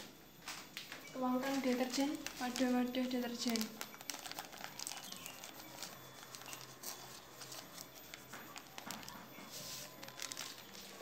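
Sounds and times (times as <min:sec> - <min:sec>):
plastic packet crinkling: 0:00.8 - 0:11.0
powder trickling: 0:01.0 - 0:11.0.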